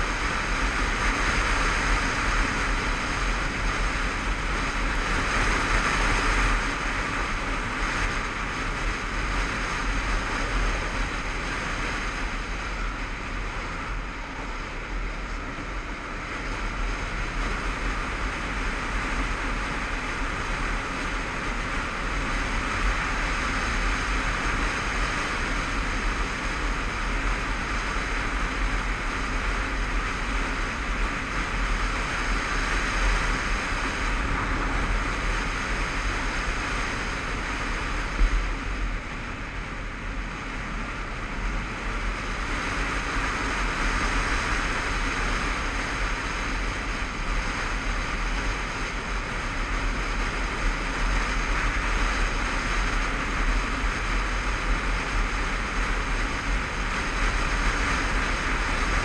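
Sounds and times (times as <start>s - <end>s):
motorcycle engine and tyres drone: 0.0s - 59.0s
wind rushing on microphone: 0.0s - 59.0s.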